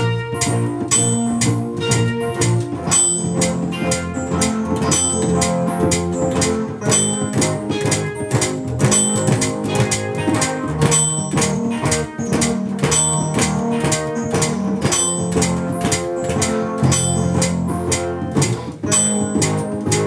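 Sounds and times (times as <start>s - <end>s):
bass: 0.0s - 20.0s
drum kit steady beat: 0.0s - 20.0s
guitar: 0.0s - 20.0s.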